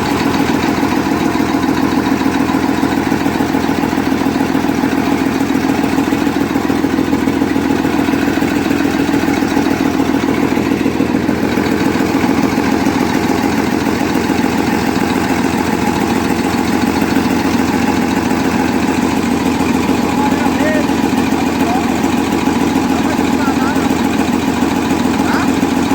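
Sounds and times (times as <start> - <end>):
diesel engine idling loudly: 0.0 - 25.9.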